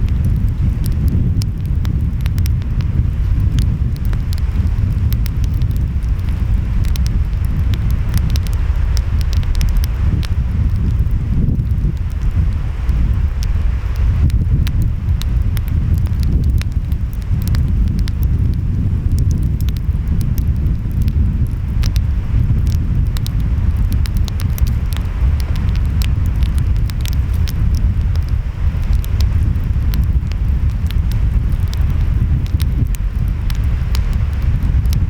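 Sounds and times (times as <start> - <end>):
wind: 0.0 - 35.0
wood fire crackling: 0.0 - 35.0.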